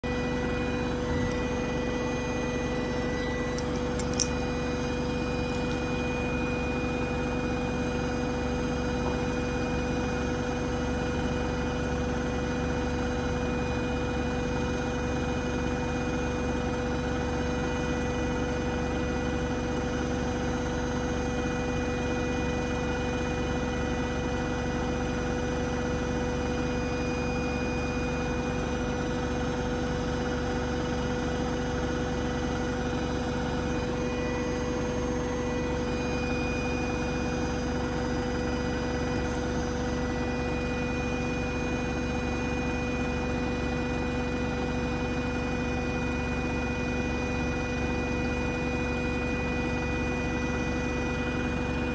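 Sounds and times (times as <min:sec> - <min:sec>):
washing machine spinning: 0:00.0 - 0:51.9.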